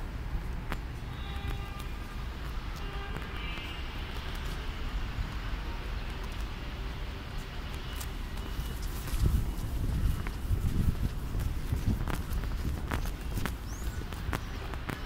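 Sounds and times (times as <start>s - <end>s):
steady low rumble: 0.0s - 15.0s
faint scattered clicks: 0.5s - 9.4s, 10.1s - 15.0s.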